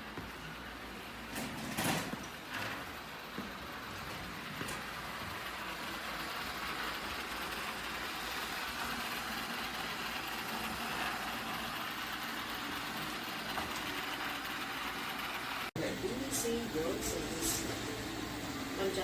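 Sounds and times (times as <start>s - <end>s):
robot vacuum whirring: 2.5s - 19.0s.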